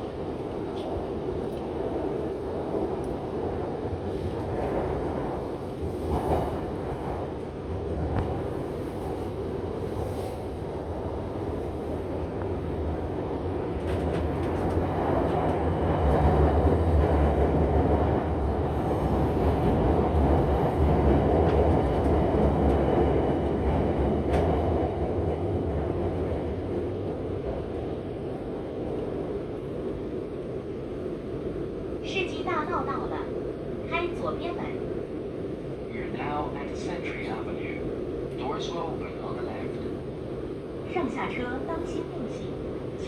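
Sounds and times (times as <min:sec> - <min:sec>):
train rumbling in tunnel: 0:00.0 - 0:43.0.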